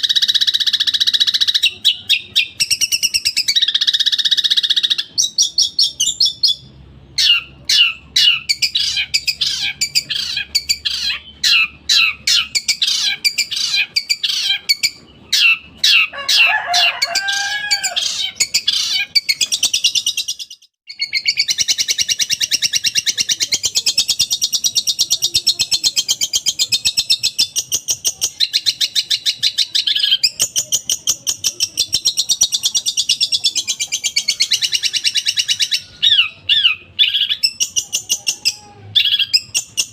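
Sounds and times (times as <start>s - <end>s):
bird chatter of high notes: 0.0s - 39.9s.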